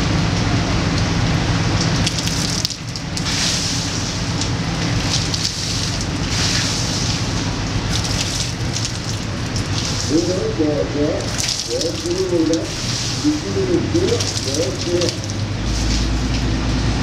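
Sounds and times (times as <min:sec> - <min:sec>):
boat engine drone: 0:00.0 - 0:17.0
rain and wind hiss on deck: 0:00.0 - 0:17.0.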